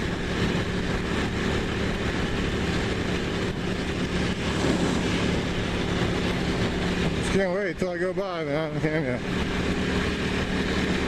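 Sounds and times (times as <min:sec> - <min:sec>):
motorcycle engine running: 0:00.0 - 0:11.0
steady rush of noise: 0:00.0 - 0:11.0.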